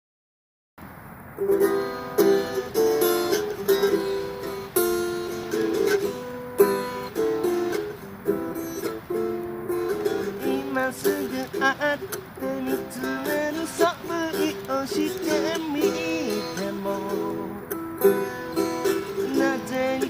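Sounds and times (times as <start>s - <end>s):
strummed acoustic string chords: 1.3s - 20.0s.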